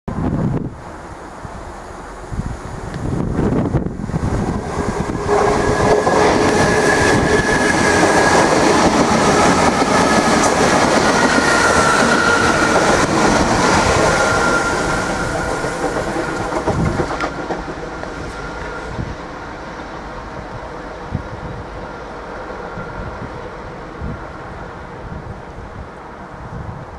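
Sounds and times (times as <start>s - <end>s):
electric train passing: 0.2s - 26.9s
train wheels on rails whining: 0.7s - 26.9s.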